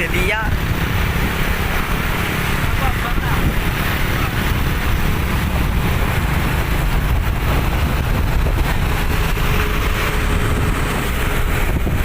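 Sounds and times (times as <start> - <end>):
road noise: 0.0 - 12.0
truck engine rumble: 0.0 - 12.0
wind on microphone: 0.0 - 12.0.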